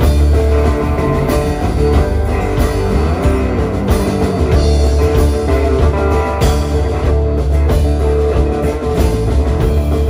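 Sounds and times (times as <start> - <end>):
live band playing: 0.0 - 10.0.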